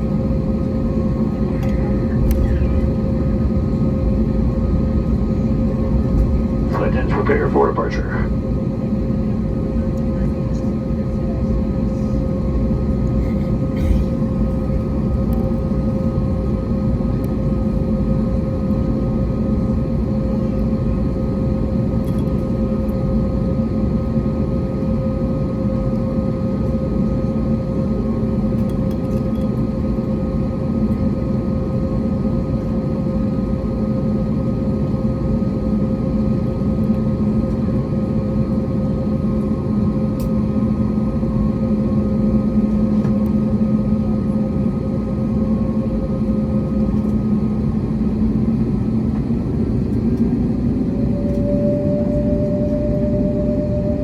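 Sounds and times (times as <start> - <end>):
airliner cabin rumble: 0.0 - 54.0
constant hum: 0.0 - 54.0.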